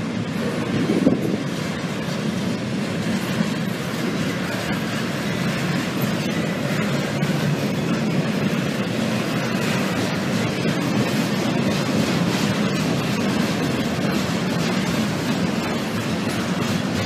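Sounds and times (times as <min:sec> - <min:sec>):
steel wheels on rail: 0:00.0 - 0:17.0.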